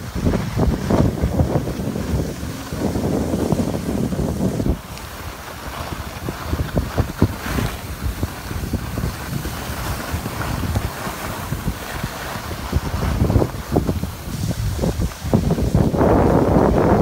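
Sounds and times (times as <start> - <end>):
skis sliding on snow: 0.0 - 17.0
wind buffeting microphone: 0.0 - 17.0.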